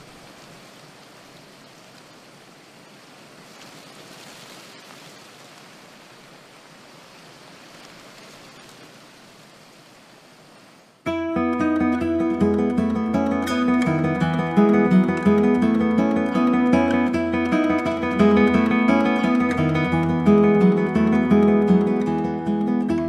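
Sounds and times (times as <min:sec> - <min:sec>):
faint outdoor background hiss: 0:00.0 - 0:23.0.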